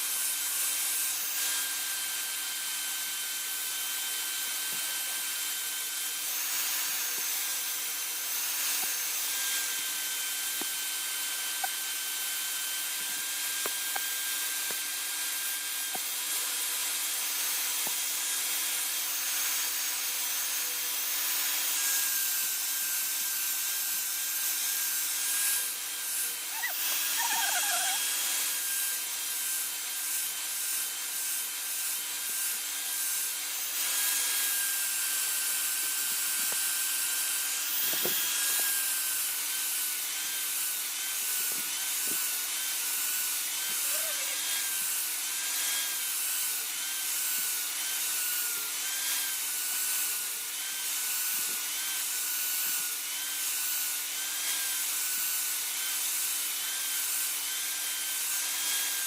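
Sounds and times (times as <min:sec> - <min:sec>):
power tool grinding: 0:00.0 - 0:59.0.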